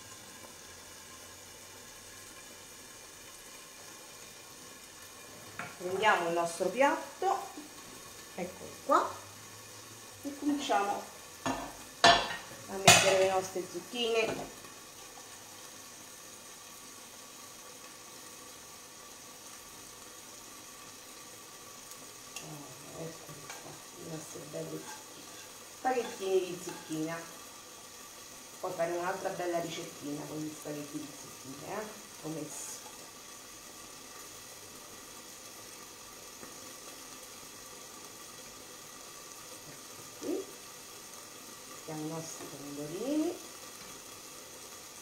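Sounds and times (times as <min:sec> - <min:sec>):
fish sizzling in a pan: 0:00.0 - 0:45.0.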